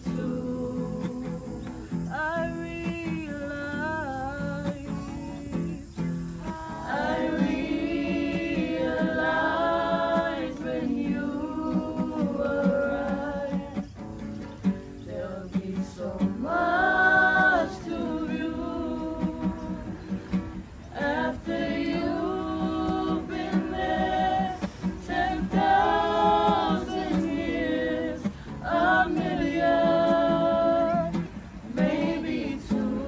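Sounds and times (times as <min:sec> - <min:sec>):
group of voices singing: 0:00.0 - 0:14.0, 0:14.6 - 0:33.0
strummed acoustic guitar: 0:00.0 - 0:33.0.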